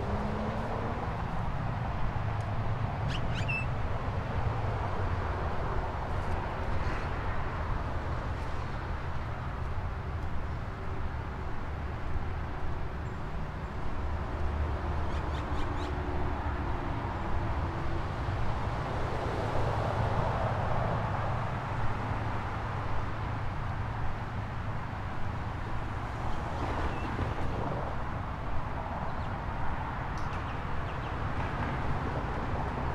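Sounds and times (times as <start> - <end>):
traffic hum: 0.0 - 32.9.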